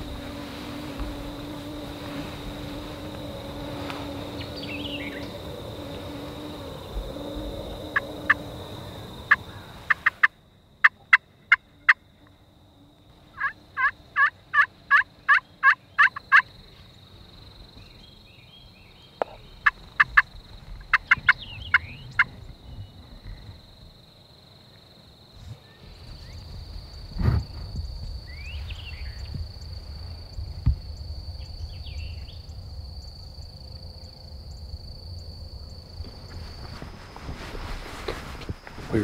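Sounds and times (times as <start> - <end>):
insect drone: 0.0 - 39.0.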